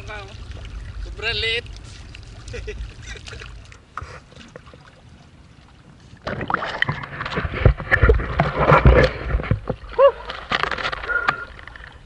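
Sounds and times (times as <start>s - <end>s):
water splashing against canoe: 0.0s - 12.0s.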